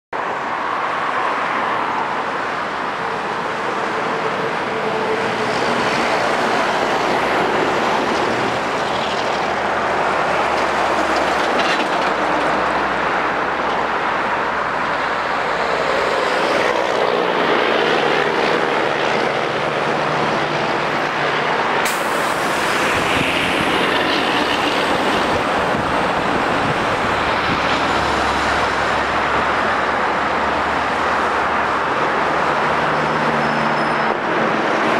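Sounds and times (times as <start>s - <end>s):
highway traffic passing: 0.2s - 34.9s
truck engines: 0.2s - 34.9s.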